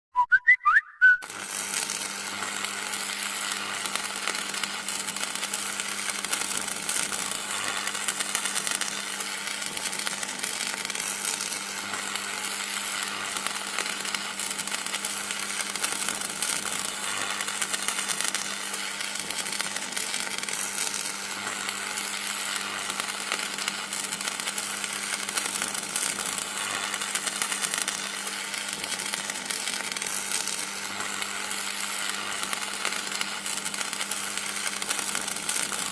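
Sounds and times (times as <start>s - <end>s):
electrical buzz and crackle: 1.2s - 35.9s.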